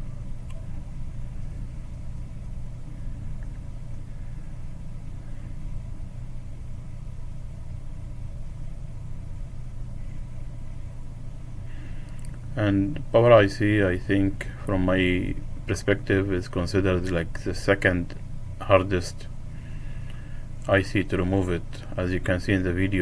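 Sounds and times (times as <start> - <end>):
low mechanical hum and rumble: 0.0 - 23.0.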